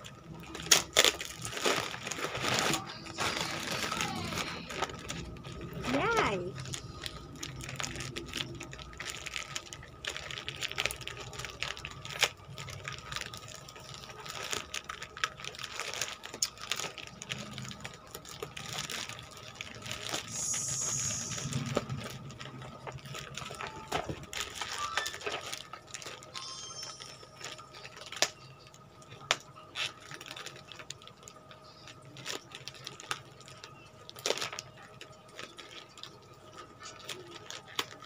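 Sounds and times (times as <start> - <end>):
plastic bag tearing: 0.0 - 38.0
plastic mailer bag crinkling: 0.0 - 38.0.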